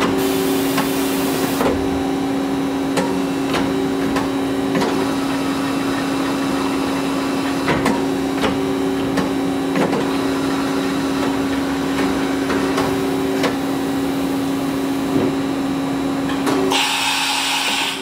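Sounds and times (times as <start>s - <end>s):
machine hum: 0.0s - 17.8s.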